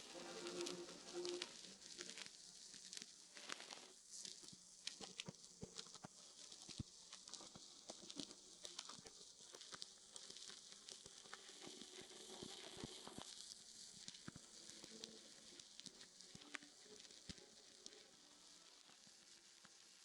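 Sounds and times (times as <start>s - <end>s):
record crackles and pops: 0.0s - 20.0s
record surface hiss: 0.0s - 20.0s.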